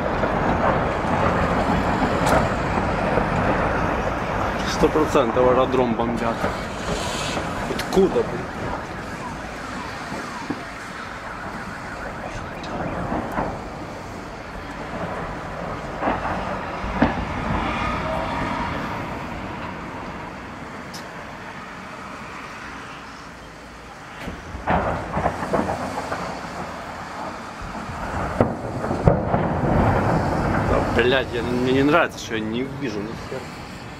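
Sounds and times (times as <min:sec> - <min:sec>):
wailing siren: 0:00.0 - 0:05.2, 0:06.2 - 0:33.9
distant dull blasts: 0:00.0 - 0:21.4, 0:24.2 - 0:33.9
city rumble: 0:00.0 - 0:33.9.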